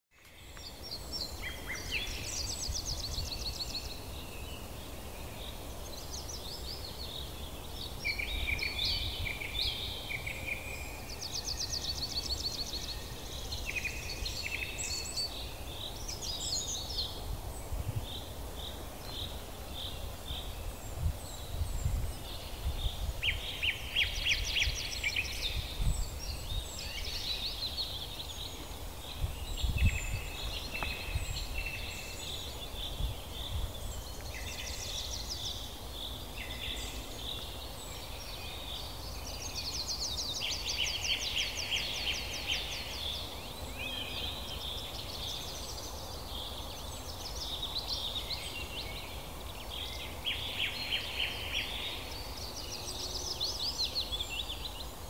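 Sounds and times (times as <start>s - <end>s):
small birds chirping and trilling: 0.1s - 55.0s.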